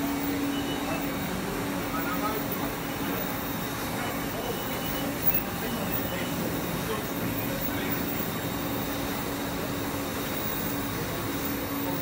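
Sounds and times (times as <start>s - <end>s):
factory machines droning: 0.0s - 12.0s.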